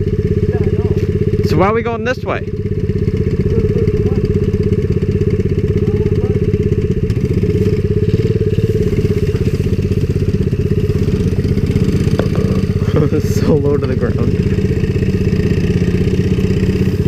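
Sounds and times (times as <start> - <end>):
small motorbike engine running: 0.0 - 17.0.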